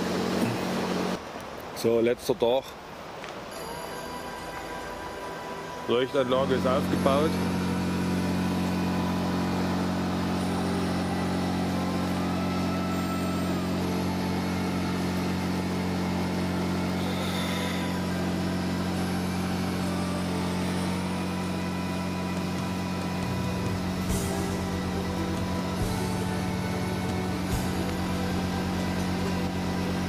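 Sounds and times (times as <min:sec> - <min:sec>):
generator engine humming: 0:00.0 - 0:01.6, 0:02.4 - 0:30.0.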